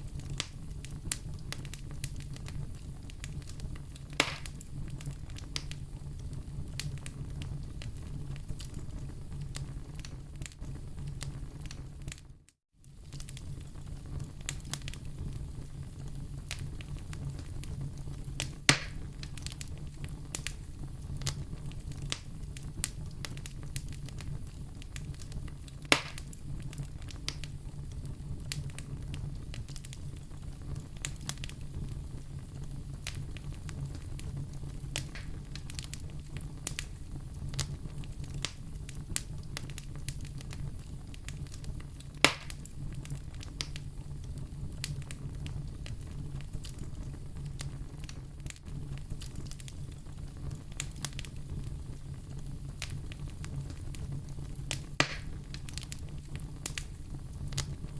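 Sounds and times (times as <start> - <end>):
loud fire pops: 0.0 - 12.3, 12.9 - 57.9
wood fire crackling: 0.0 - 57.9.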